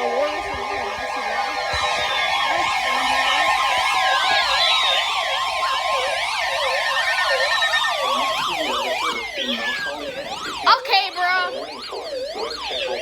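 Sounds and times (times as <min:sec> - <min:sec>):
electronic emergency alert tones: 0:00.0 - 0:13.0.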